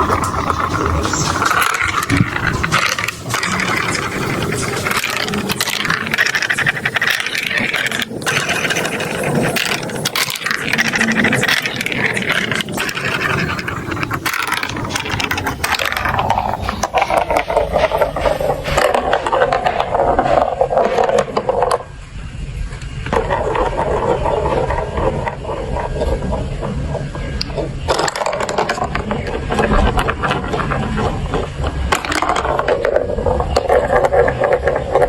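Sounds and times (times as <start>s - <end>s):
marbles rattling through plastic run: 0.0s - 22.0s, 23.0s - 35.0s.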